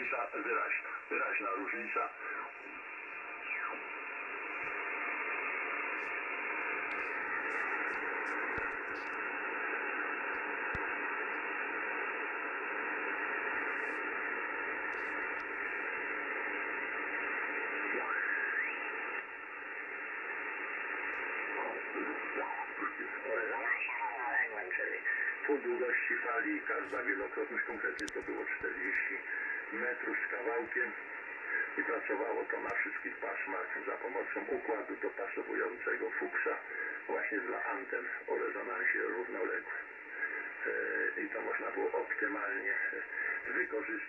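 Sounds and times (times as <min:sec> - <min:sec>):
radio static hiss: 0:00.0 - 0:44.0.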